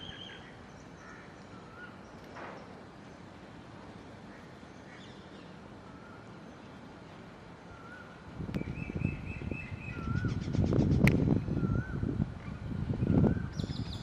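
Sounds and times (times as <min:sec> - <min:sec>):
small birds calling: 0:00.0 - 0:03.3, 0:04.2 - 0:07.0, 0:07.6 - 0:14.0.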